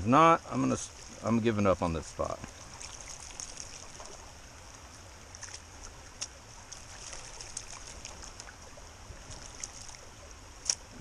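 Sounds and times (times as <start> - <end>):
creek water trickling over rocks: 0.0 - 11.0.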